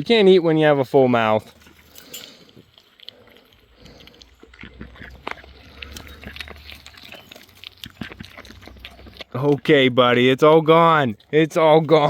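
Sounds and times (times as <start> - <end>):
goats chewing crunchy treats: 0.0 - 12.0.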